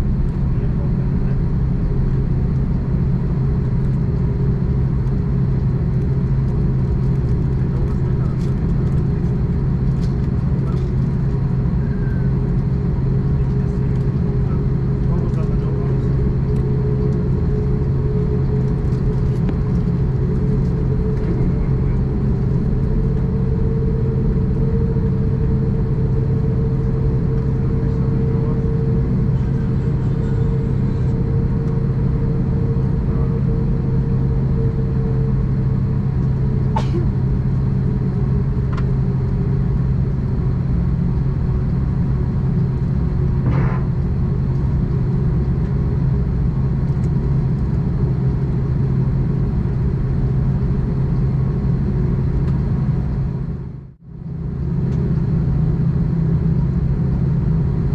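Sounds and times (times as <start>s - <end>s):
airliner cabin engine hum: 0.0s - 57.9s.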